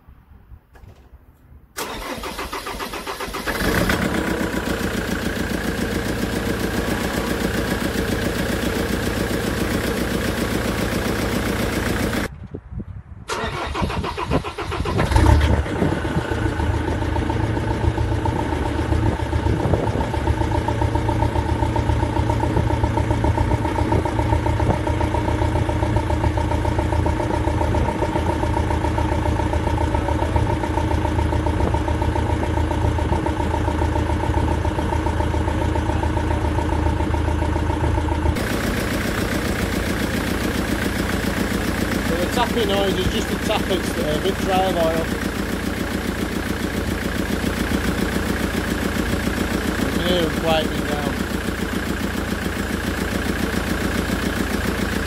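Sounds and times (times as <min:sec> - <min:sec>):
diesel engine idling: 0:01.8 - 0:12.3, 0:13.3 - 0:55.0.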